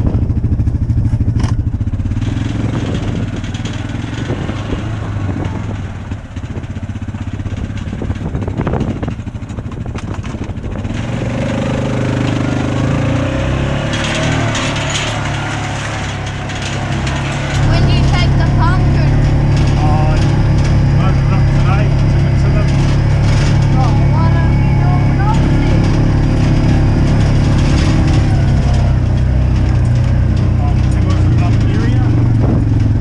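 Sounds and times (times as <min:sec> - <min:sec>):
small motorbike engine running: 0:00.0 - 0:33.0.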